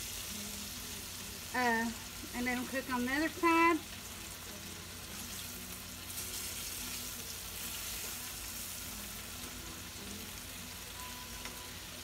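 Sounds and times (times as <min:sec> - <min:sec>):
steaks sizzling in oil: 0:00.0 - 0:12.0.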